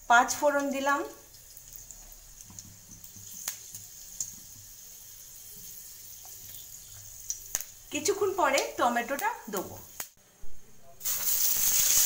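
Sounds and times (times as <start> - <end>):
seeds sizzling in oil: 0.0 - 10.2, 11.0 - 12.0.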